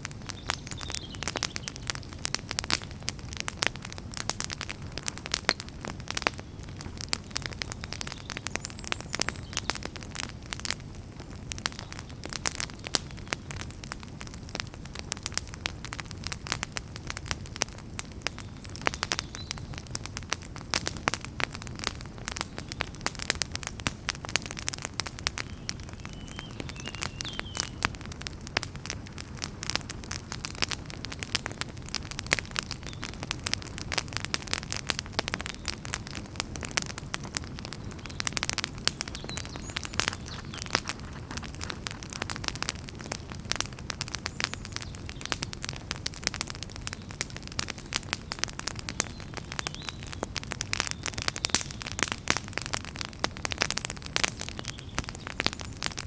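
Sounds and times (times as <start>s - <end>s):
campfire pops and crackles: 0.0s - 56.0s
low rumble of flames: 0.0s - 56.0s.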